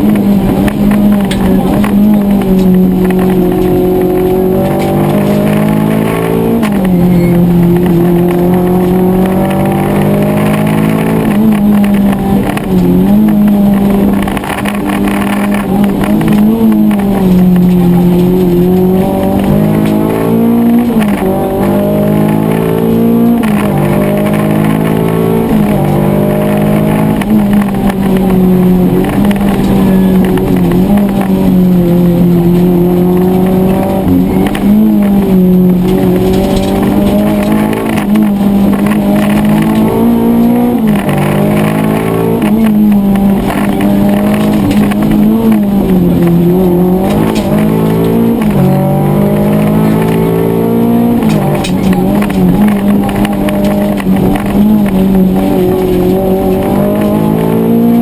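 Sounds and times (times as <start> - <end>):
rally car engine accelerating: 0.0 - 58.0.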